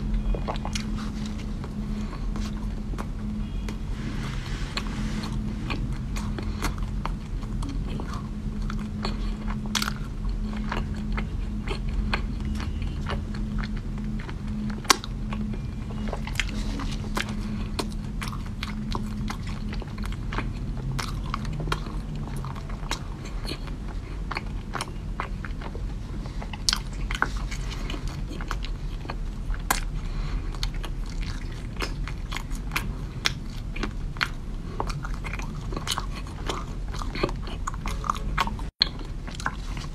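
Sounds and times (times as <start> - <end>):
low hum: 0.0 - 39.9
person chewing crunchy cookie: 0.0 - 39.9.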